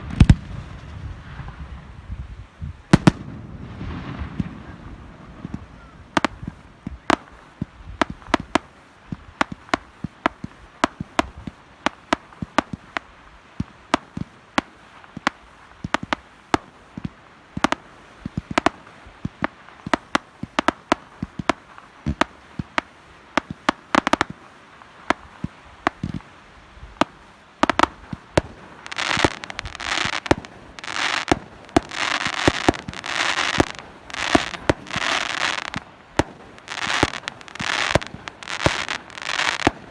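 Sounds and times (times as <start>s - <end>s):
crackling firework shells: 0.0s - 2.2s, 2.8s - 39.9s
fireworks bangs: 0.0s - 39.9s.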